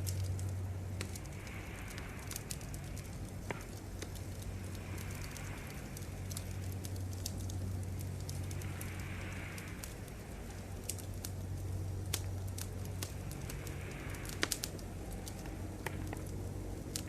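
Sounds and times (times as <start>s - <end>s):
low hum: 0.0s - 17.0s
soft hiss: 0.0s - 17.0s
wood fire crackling and popping: 0.0s - 17.0s.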